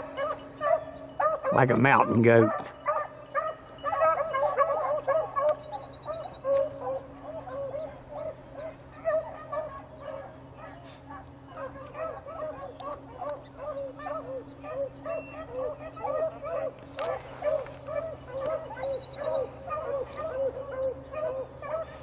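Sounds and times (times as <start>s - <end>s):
beagles baying: 0.0s - 22.0s.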